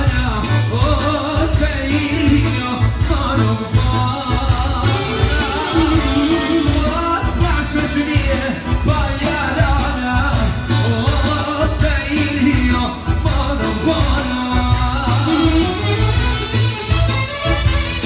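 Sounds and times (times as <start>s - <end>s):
person singing: 0.0s - 16.3s
live band with steady beat: 0.0s - 18.0s.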